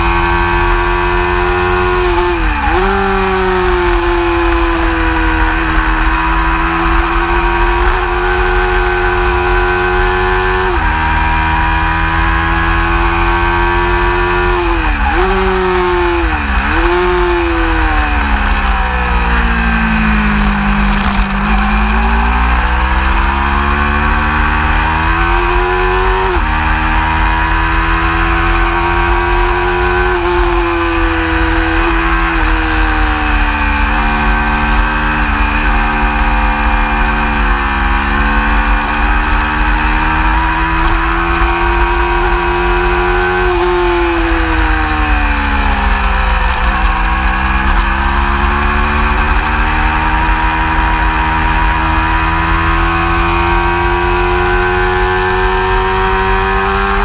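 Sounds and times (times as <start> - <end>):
motorcycle engine at speed: 0.0 - 57.0.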